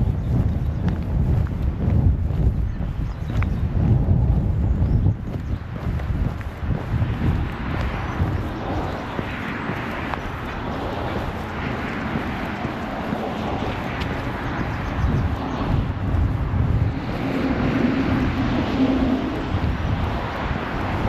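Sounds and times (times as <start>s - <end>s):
low engine hum: 0.0s - 21.0s
walking ambience: 0.0s - 21.0s
wind buffeting microphone: 0.0s - 21.0s.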